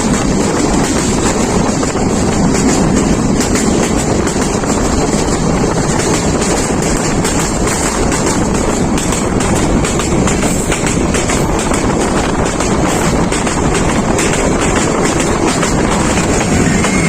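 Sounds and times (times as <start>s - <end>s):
train running at speed: 0.0s - 17.0s.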